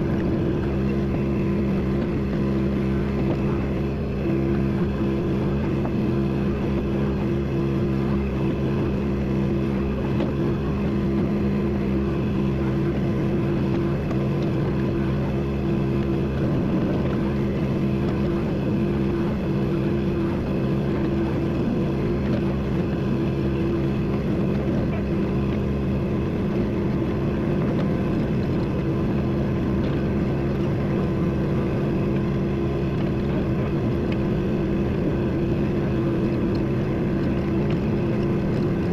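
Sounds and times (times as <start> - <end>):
vehicle engine humming steadily: 0.0 - 38.9.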